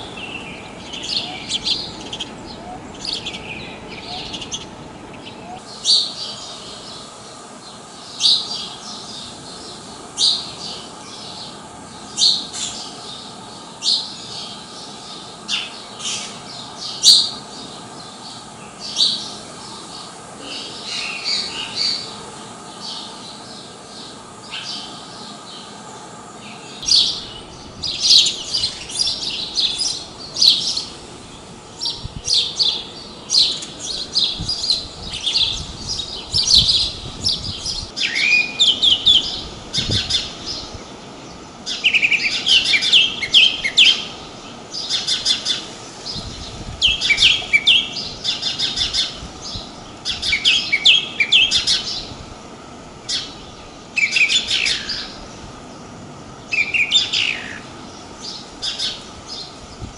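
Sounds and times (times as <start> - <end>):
sparrow chirping: 0.0 - 25.7, 26.4 - 52.1, 53.1 - 55.3, 56.5 - 59.8.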